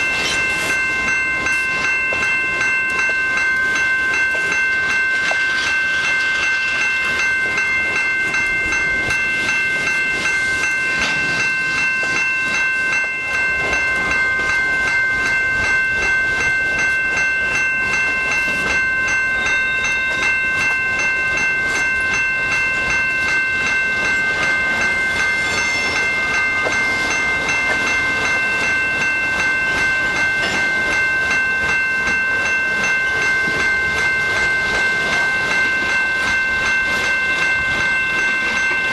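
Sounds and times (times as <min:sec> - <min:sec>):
high-pitched ringing tones: 0:00.0 - 0:38.9
train wheels rumbling and clicking: 0:00.0 - 0:38.9.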